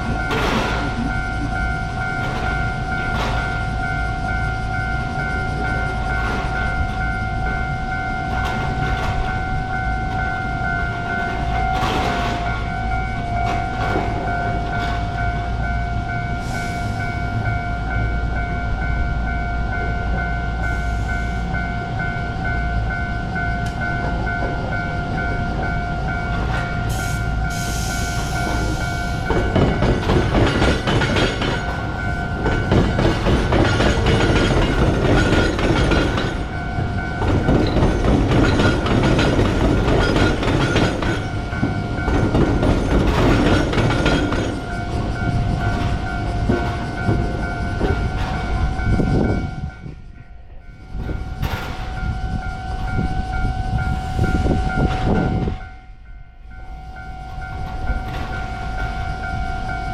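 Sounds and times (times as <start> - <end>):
train wheels clattering over rails: 0.0 - 17.7, 22.9 - 55.7, 57.3 - 59.8
level-crossing warning bell ringing: 0.0 - 59.9.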